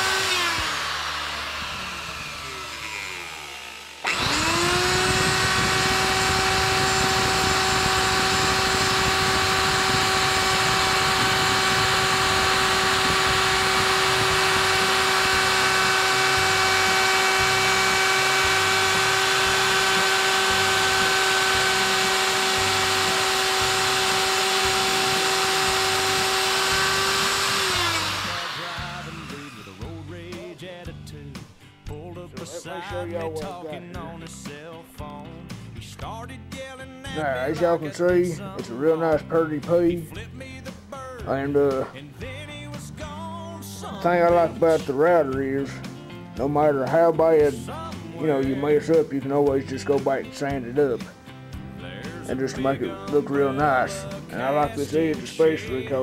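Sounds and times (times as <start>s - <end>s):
electric router whining: 0.0s - 30.8s, 37.1s - 40.3s, 43.9s - 56.0s.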